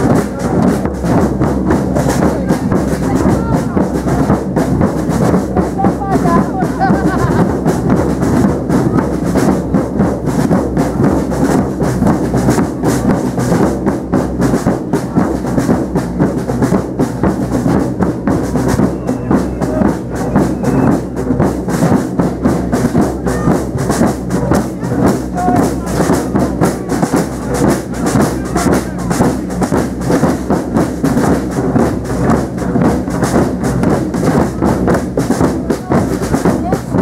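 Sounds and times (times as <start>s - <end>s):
drum band playing fast beat: 0.0s - 37.0s.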